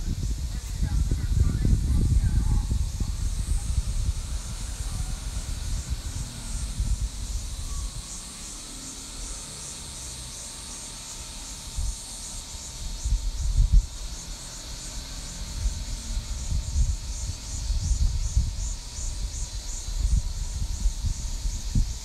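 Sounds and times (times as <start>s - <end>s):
insects chirring: 0.0s - 22.0s
wind rumbling on microphone: 0.0s - 22.0s.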